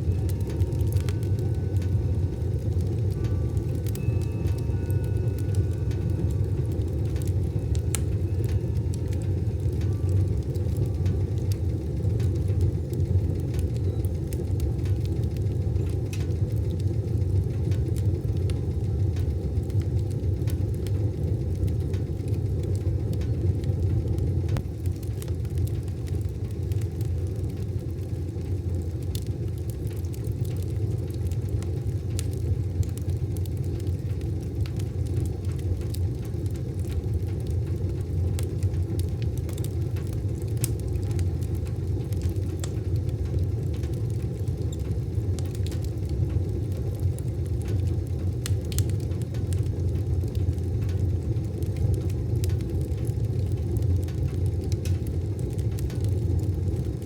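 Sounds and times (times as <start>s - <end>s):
wood fire rumbling and crackling: 0.0s - 57.0s.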